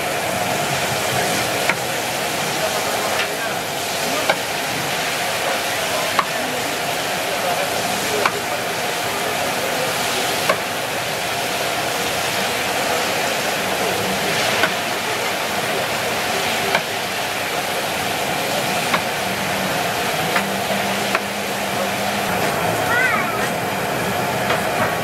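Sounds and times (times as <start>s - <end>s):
oil sizzling in deep-frying: 0.0s - 25.0s.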